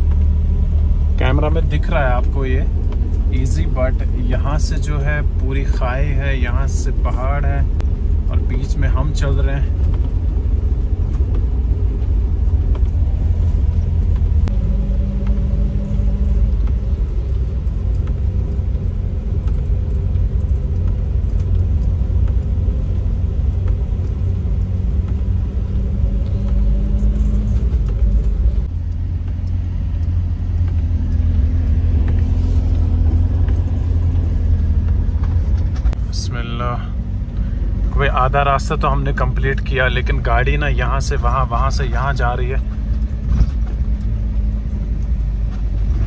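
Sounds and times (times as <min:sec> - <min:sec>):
engine and tyres rumbling: 0:00.0 - 0:46.0.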